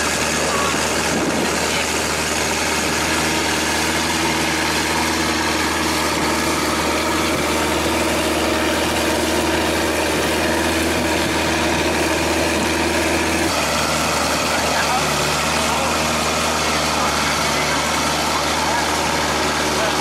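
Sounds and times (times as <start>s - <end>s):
boat engine droning: 0.0s - 20.0s
wind: 0.0s - 20.0s.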